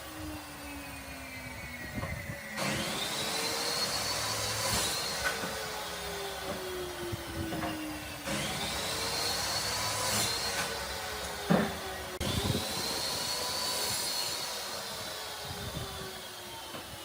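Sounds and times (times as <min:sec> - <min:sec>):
power tool motor whine: 0:00.0 - 0:17.0.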